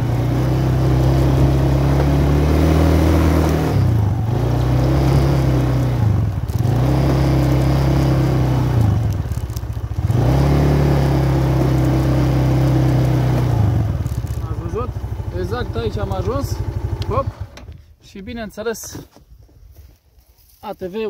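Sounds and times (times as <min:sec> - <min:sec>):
quad bike engine revving: 0:00.0 - 0:17.7.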